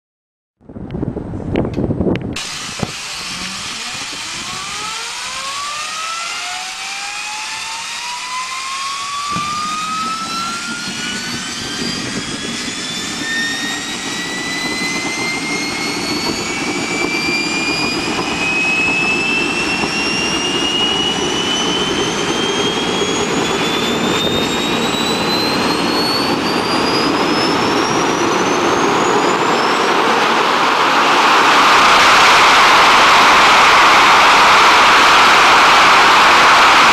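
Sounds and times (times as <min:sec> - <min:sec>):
jet engine whine spooling up: 0:01.1 - 0:36.9
rushing roar: 0:02.4 - 0:36.9.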